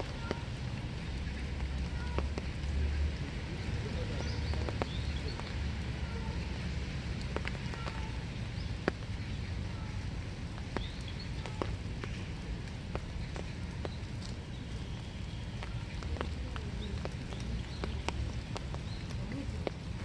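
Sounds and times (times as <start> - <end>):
raindrops tapping: 0.0 - 20.0
steady rain hiss: 0.0 - 20.0.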